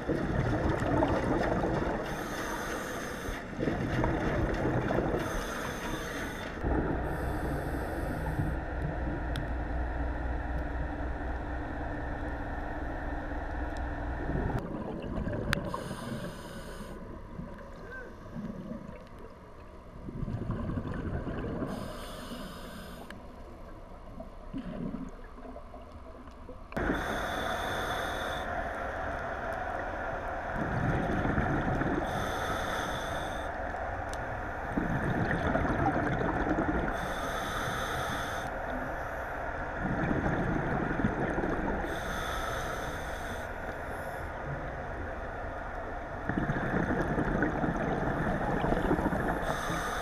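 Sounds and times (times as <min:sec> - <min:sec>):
exhaled bubbles gurgling: 0:00.0 - 0:09.3, 0:14.2 - 0:16.2, 0:17.1 - 0:22.0, 0:24.1 - 0:33.4, 0:34.3 - 0:43.0, 0:43.6 - 0:50.0
low machine hum: 0:00.0 - 0:50.0.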